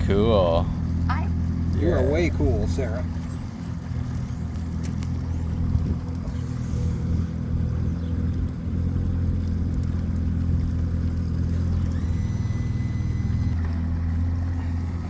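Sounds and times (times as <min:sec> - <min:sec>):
motorboat engine drone: 0:00.0 - 0:15.0.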